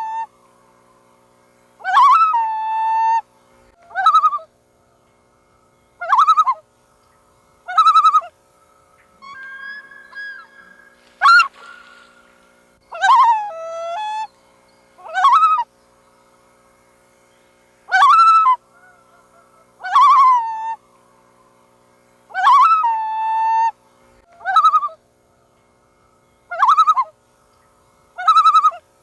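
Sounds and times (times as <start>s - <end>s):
faint steady tone: 0.0s - 29.0s
loons calling: 0.0s - 29.0s.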